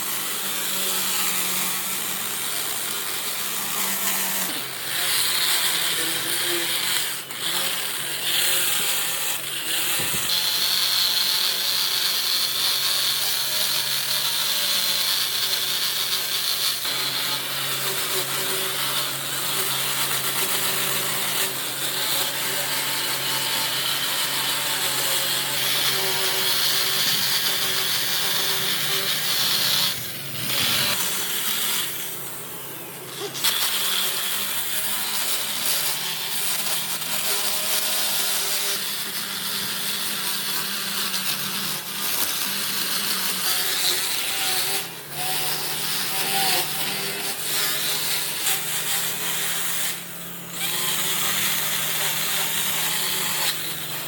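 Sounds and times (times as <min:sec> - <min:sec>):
power tool cutting wood: 0:00.0 - 0:54.0.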